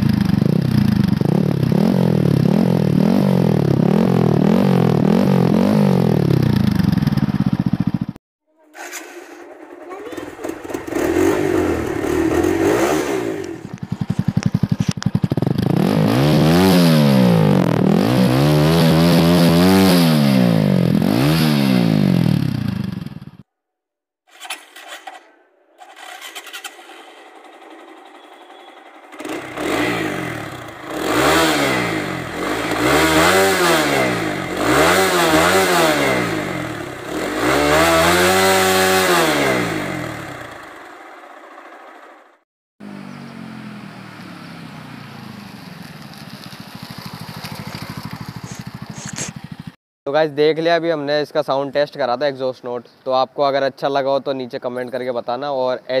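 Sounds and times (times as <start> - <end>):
motorcycle engine revving: 0.0 - 23.4, 24.3 - 49.8.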